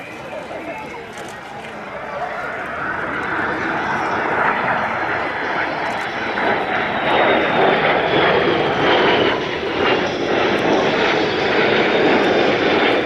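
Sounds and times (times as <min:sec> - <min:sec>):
jet flying overhead: 0:00.0 - 0:13.0.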